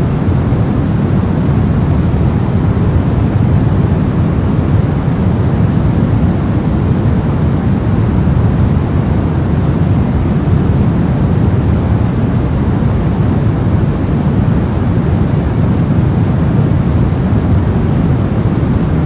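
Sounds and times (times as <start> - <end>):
steady brown noise: 0.0 - 19.0.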